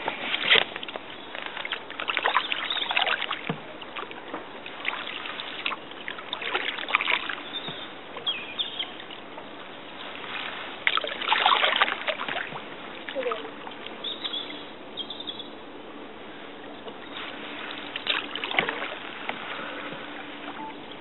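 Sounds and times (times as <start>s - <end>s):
paddle splashes and drips: 0.0s - 14.9s, 16.2s - 21.0s.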